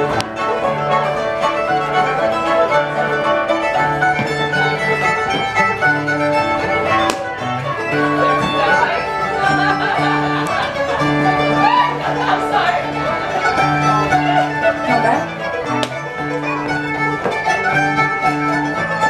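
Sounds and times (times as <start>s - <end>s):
fiddle dance music: 0.0s - 19.0s.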